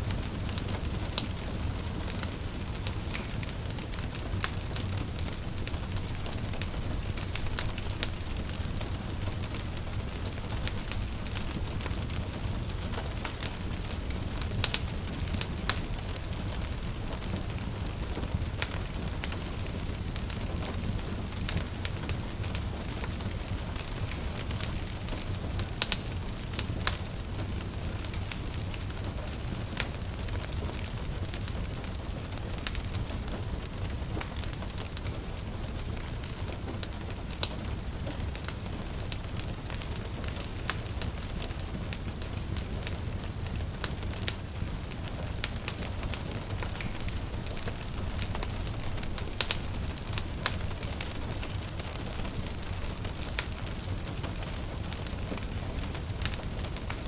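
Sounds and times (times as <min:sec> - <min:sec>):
rain pattering: 0:00.0 - 0:57.0
wood fire crackling and popping: 0:00.0 - 0:57.0.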